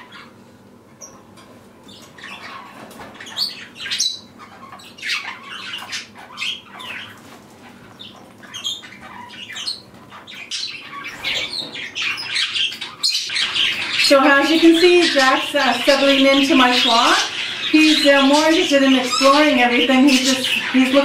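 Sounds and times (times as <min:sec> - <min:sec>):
budgerigars chirping and squawking: 0:00.0 - 0:21.0.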